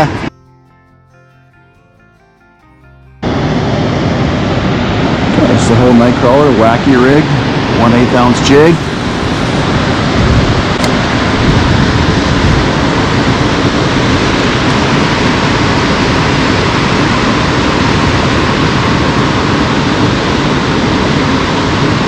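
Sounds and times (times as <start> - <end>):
water roaring below a dam: 3.6 - 22.0.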